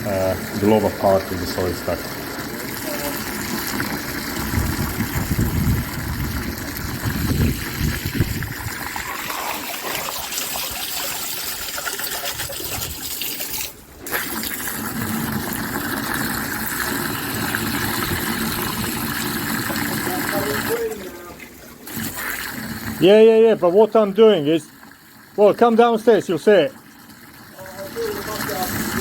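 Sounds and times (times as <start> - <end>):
toilet flush water gushing: 0.0 - 29.0.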